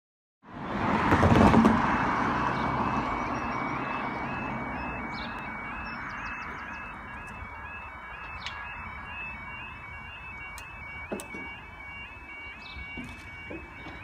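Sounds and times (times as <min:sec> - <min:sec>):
warbling two-tone crossing alarm: 0:01.3 - 0:14.0.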